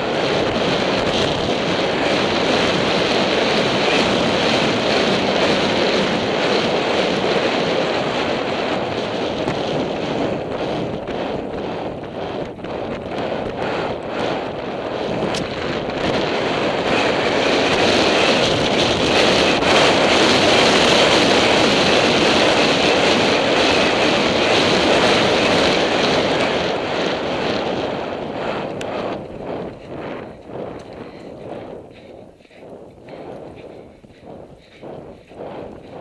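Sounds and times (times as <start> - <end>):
galloping hoofbeats: 0.0 - 36.0
wind buffeting microphone: 0.0 - 36.0.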